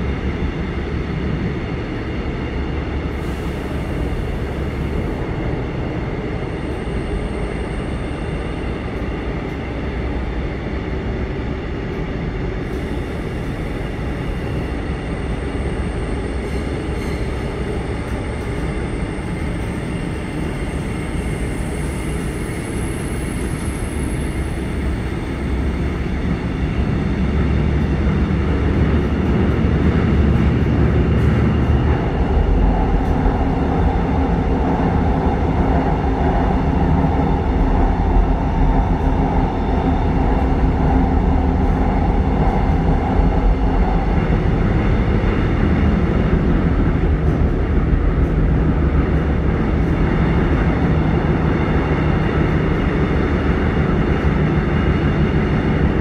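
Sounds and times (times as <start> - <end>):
electric train rumbling on track: 0.0 - 56.0.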